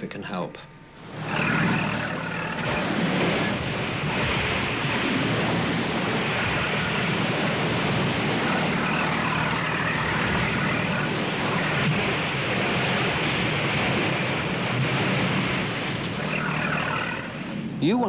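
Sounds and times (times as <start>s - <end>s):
boat engine drone: 0.0s - 18.0s
sea wash and spray hissing: 0.9s - 18.0s.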